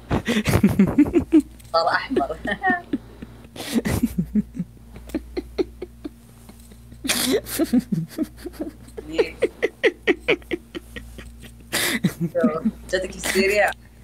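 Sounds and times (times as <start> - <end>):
stifled giggling: 0.1 - 13.7.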